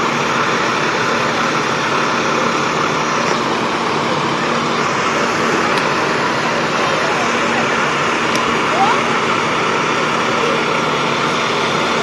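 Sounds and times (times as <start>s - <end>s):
diesel truck engines running: 0.0s - 12.0s.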